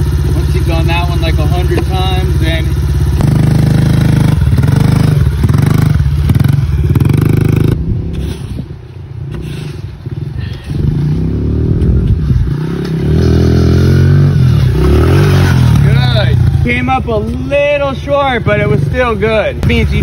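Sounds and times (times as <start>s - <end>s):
motorbike engine revving: 0.0s - 8.4s, 9.3s - 17.1s.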